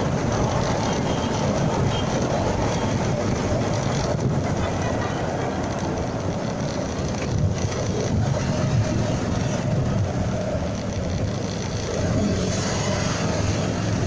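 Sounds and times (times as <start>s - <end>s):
tyre noise: 0.0s - 14.0s.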